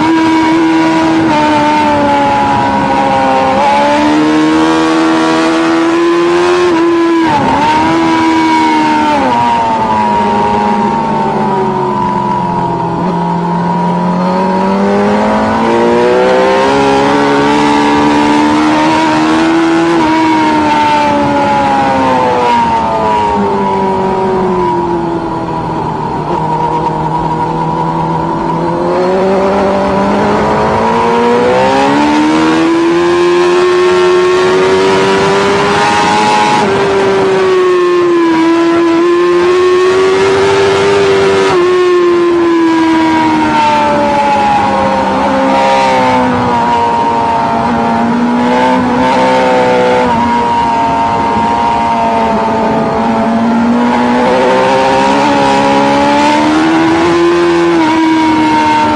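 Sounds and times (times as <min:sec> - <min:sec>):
motorcycle engine revving: 0:00.0 - 0:58.9
wind noise: 0:00.0 - 0:58.9.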